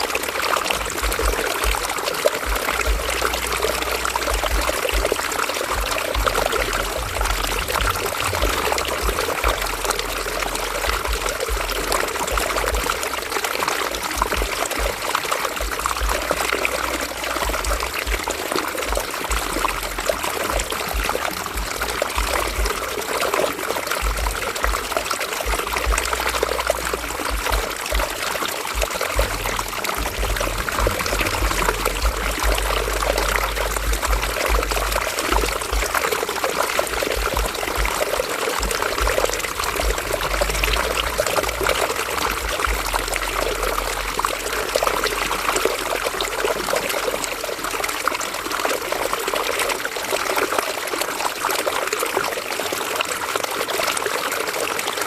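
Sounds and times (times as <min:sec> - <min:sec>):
river water babbling over rocks: 0:00.0 - 0:55.0.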